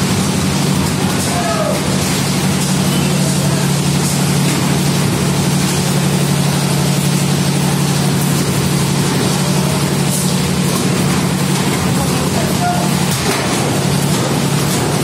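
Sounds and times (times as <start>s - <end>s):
heavy machinery engine droning: 0.0s - 15.0s.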